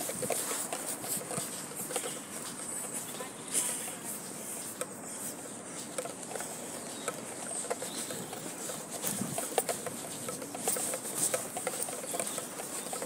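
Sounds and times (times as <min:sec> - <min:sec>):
footsteps: 0:00.0 - 0:13.0
steady outdoor hiss: 0:00.0 - 0:13.0.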